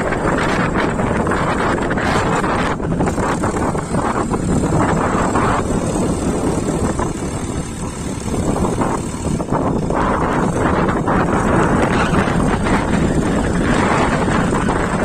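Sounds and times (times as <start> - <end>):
diesel tractor engine rumbling: 0.0 - 15.0
wind buffeting microphone: 0.0 - 15.0.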